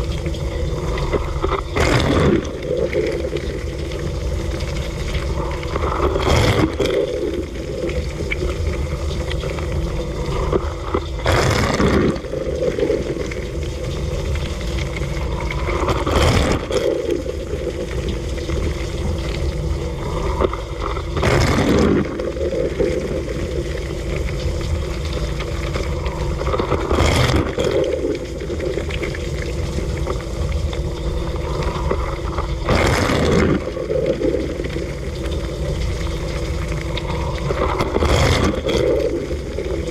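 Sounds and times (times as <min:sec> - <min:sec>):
water spraying and sloshing: 0:00.0 - 0:39.9.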